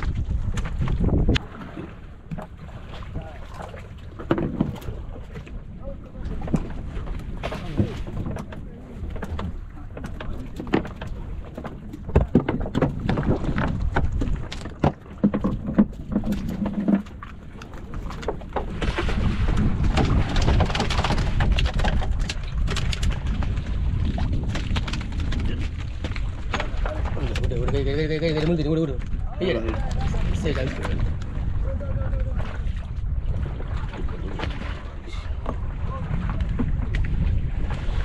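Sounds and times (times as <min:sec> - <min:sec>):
knocks and clatter on wooden boat: 0:00.0 - 0:38.0
wind and sea rumble: 0:00.0 - 0:38.0.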